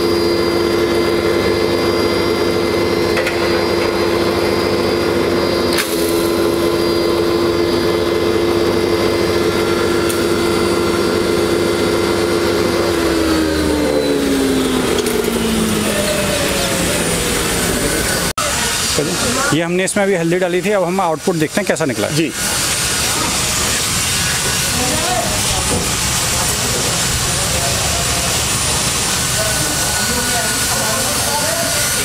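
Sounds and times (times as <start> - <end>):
grinder motor humming: 0.0 - 32.0.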